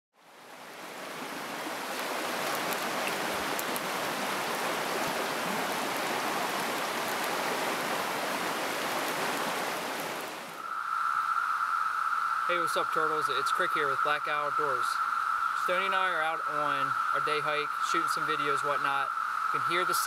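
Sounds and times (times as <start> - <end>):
water rushing over rocks: 0.2 - 20.0.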